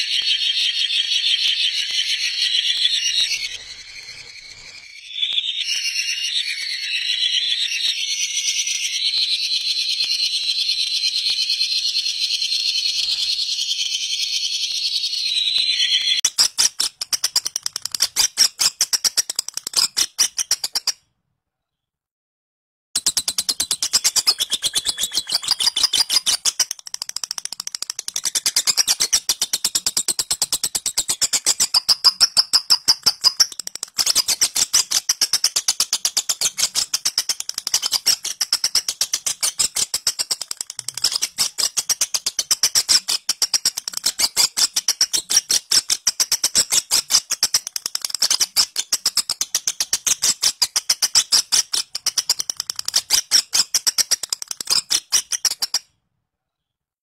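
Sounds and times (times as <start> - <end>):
lovebird chattering: 0.0 - 21.0, 23.0 - 55.8.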